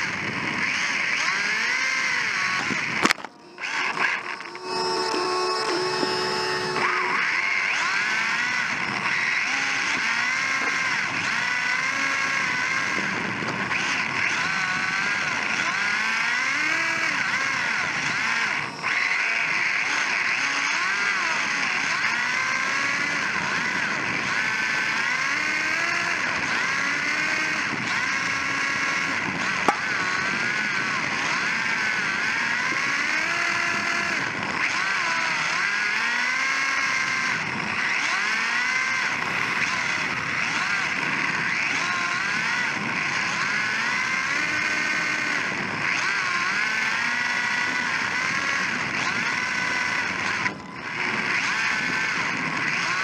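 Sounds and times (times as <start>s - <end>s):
rc car motor whining: 0.0s - 53.0s.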